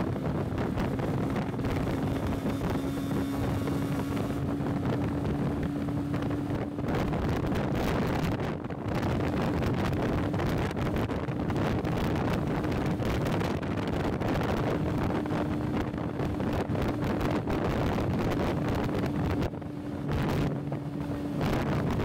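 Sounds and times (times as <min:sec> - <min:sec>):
motorcycle engine hum: 0:00.0 - 0:22.0
wind buffeting microphone: 0:00.0 - 0:22.0.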